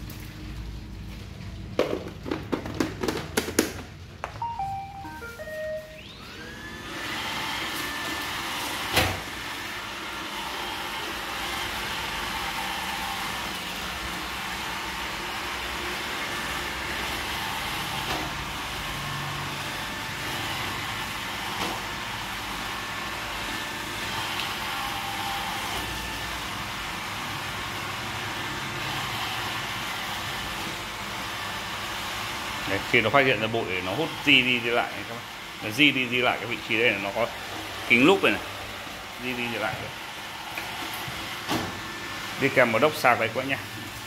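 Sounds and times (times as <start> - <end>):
robot vacuum humming: 4.4 - 44.0.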